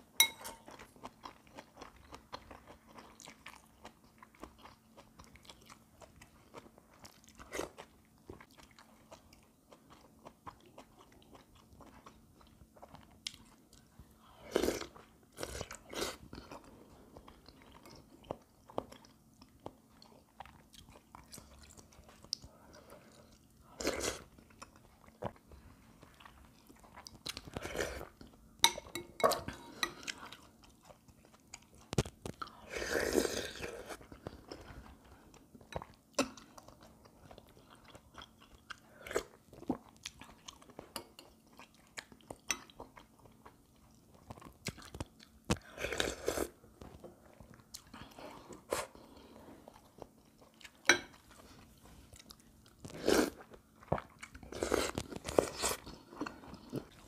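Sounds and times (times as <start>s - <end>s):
person chewing food: 0.2s - 57.0s.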